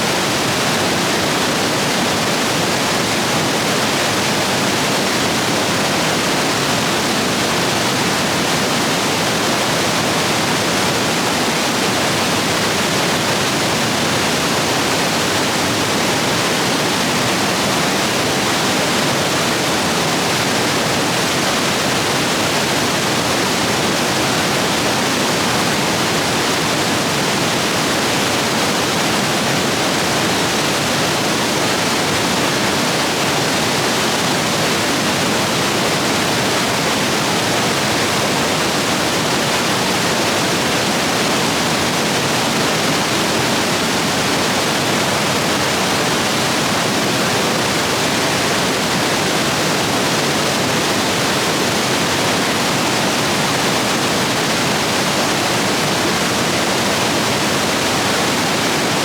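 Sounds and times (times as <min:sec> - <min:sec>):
white water rushing: 0:00.0 - 0:59.0.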